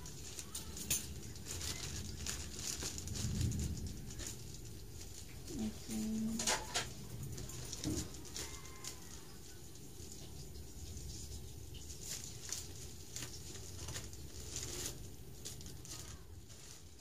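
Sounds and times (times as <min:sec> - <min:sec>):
plastic pouch crinkling: 0:00.0 - 0:17.0.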